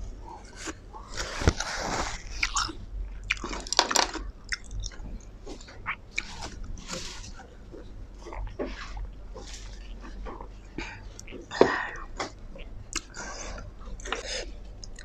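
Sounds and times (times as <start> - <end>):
person crunching and chewing: 0.3 - 15.0.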